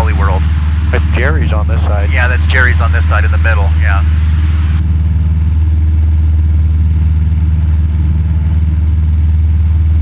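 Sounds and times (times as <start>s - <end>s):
airplane engine droning: 0.0s - 10.0s.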